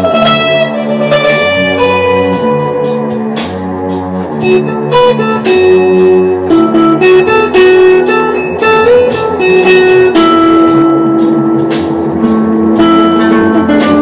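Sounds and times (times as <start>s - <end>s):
guitar melody: 0.0s - 14.0s
high ticks keeping a beat: 0.0s - 14.0s
keyboard playing: 0.0s - 14.0s.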